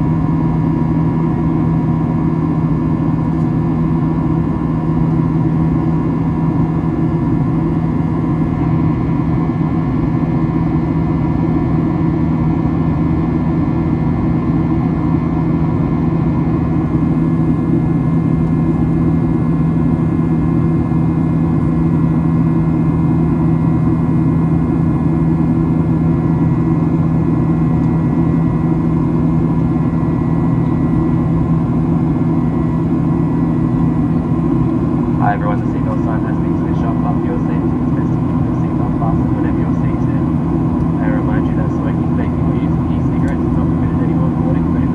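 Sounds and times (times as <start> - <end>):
aircraft cabin engine hum: 0.0 - 44.9.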